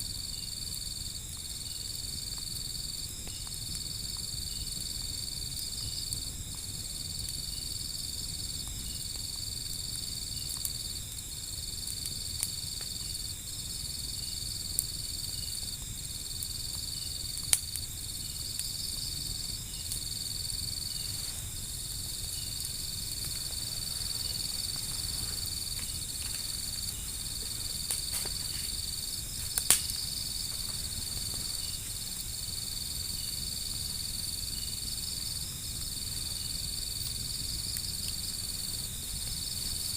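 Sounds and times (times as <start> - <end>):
insects trilling: 0.0 - 39.9
wood fire crackling: 0.0 - 39.9.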